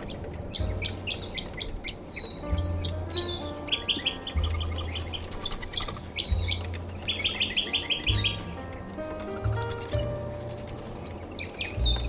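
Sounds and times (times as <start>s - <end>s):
birds chirping: 0.0s - 12.0s
soft background music: 0.0s - 12.0s.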